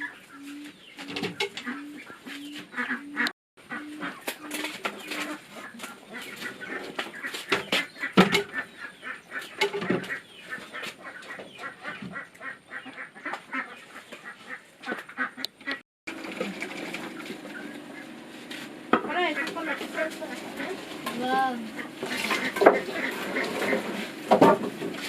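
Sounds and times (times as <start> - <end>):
ducks quacking: 0.0 - 15.8, 17.0 - 24.6.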